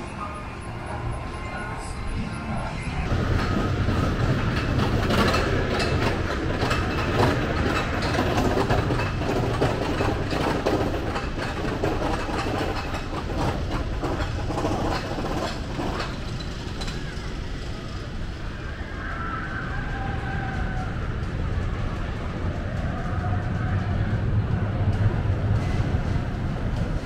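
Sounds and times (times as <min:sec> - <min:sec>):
roller coaster rumbling on track: 0:00.0 - 0:27.0.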